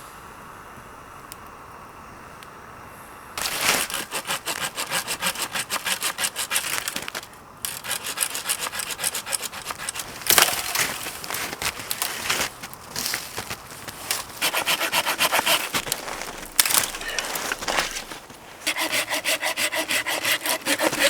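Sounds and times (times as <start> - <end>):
hand saw cutting wood: 3.4 - 21.0.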